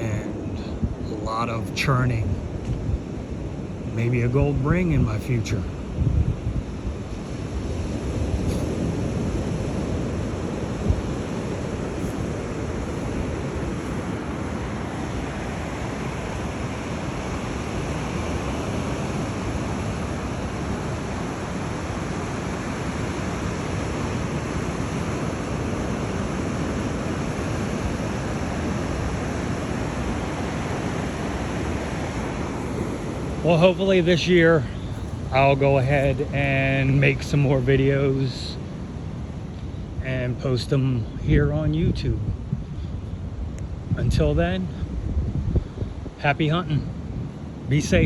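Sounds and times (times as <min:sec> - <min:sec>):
ocean waves breaking: 0:00.0 - 0:48.0.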